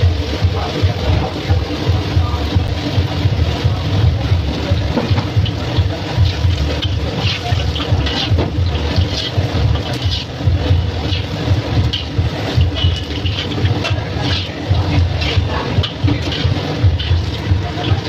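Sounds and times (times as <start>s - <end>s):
low rumble: 0.0s - 18.0s
oil sizzling and crackling: 0.0s - 18.0s.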